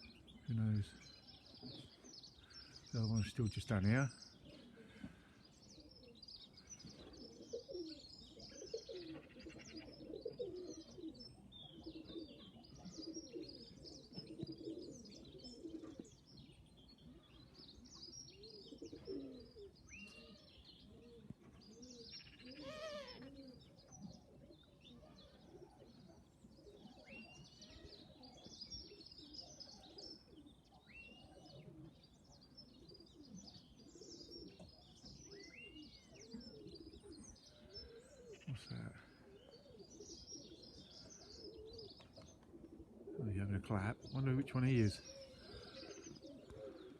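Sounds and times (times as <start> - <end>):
pigeons cooing softly: 0.0 - 46.9
small birds chirping: 0.0 - 46.9.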